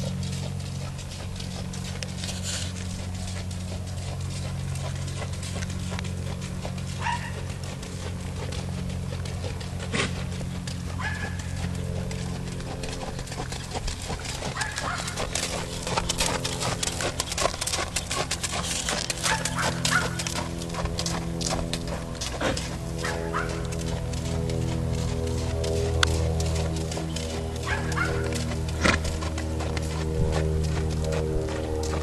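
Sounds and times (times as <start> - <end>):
hoofbeats on sand: 0.0 - 32.0
steady low hum: 0.0 - 32.0.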